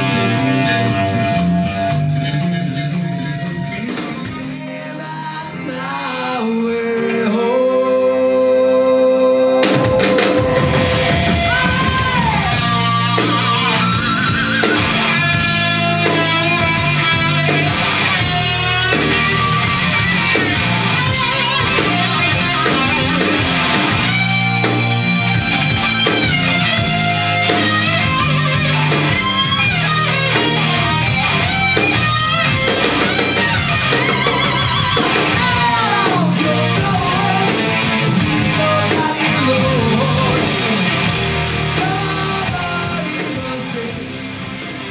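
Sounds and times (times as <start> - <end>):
electric guitar lead: 0.0 - 44.9
hard rock band playing: 0.0 - 44.9.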